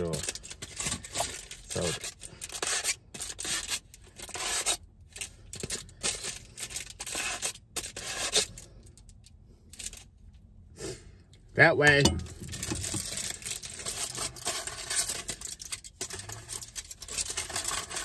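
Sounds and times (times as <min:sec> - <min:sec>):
foil crinkling and tearing: 0:00.0 - 0:09.0, 0:12.4 - 0:18.0.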